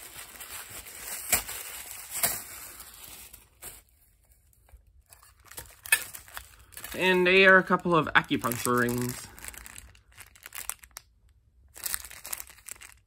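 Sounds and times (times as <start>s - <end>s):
packaging rustling and crinkling: 0.0s - 11.0s, 11.7s - 13.0s.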